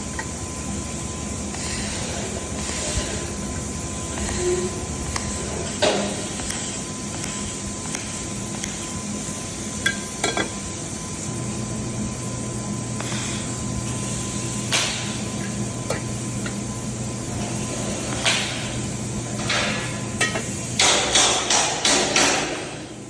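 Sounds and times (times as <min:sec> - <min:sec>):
workshop noise: 0:00.0 - 0:23.0.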